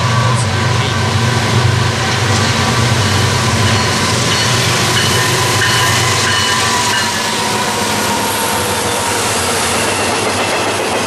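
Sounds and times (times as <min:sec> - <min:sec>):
diesel locomotive engine drone: 0:00.0 - 0:11.0
wheels clattering on rail: 0:00.0 - 0:11.0.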